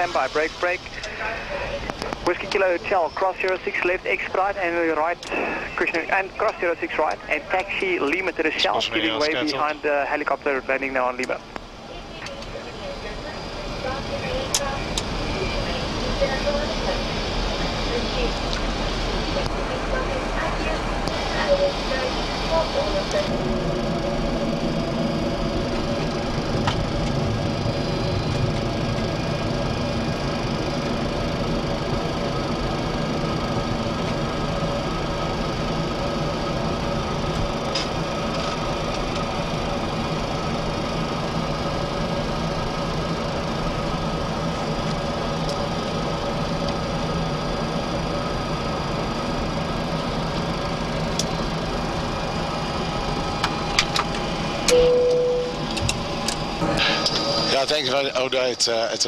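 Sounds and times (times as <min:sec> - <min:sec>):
jet engines idling hum: 0:00.0 - 0:59.0.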